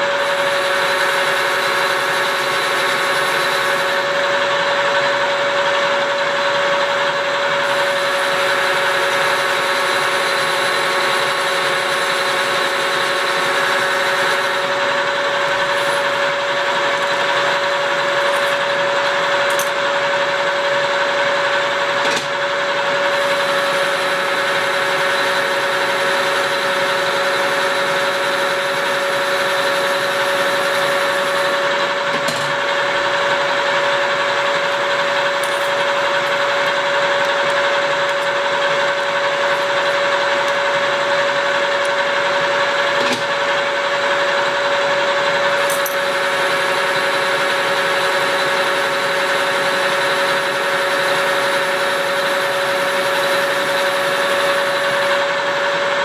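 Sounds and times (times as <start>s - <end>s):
lathe running with hum and hiss: 0.0s - 56.0s.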